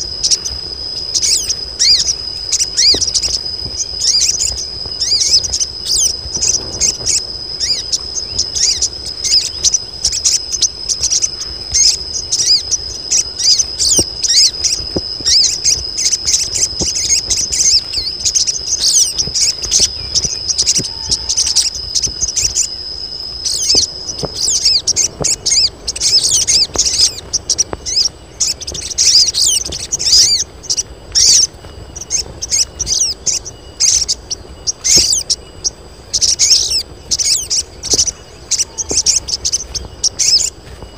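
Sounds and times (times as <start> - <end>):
birds chirping rapidly: 0.0 - 40.9.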